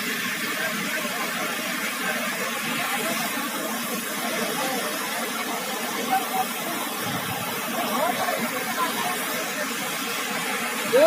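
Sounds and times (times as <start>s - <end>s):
waterfall rushing: 0.0s - 11.0s
faint voices: 0.1s - 11.0s.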